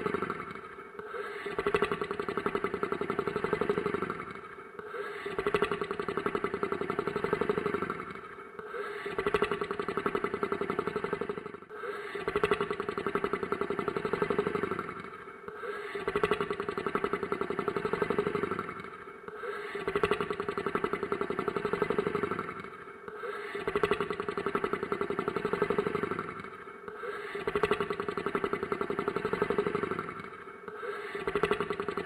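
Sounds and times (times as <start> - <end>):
fluttering rattling monster snore: 0.0 - 32.0.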